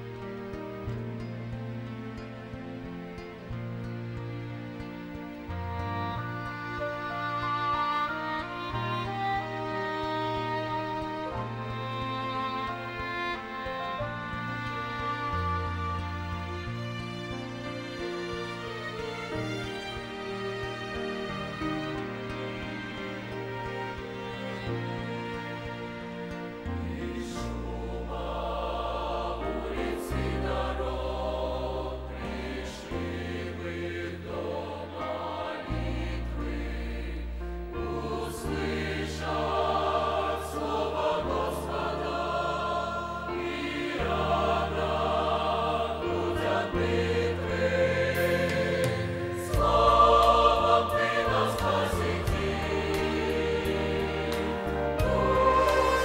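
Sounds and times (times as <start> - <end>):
choir singing a hymn: 0.0 - 56.0
instrumental accompaniment: 0.0 - 56.0.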